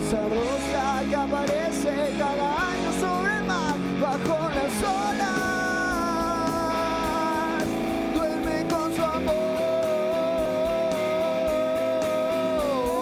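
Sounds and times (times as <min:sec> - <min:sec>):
lead guitar bending notes: 0:00.0 - 0:13.0
rock band playing: 0:00.0 - 0:13.0.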